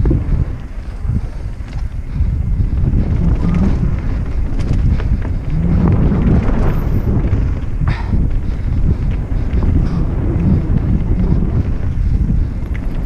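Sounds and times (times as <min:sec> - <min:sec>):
bike knocking and rattling: 0:00.0 - 0:13.0
wind buffeting microphone: 0:00.0 - 0:13.0.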